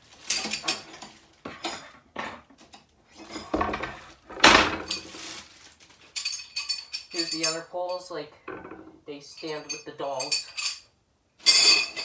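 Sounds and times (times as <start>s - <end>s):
metal frame clinking and knocking: 0.3s - 5.2s, 6.1s - 12.0s.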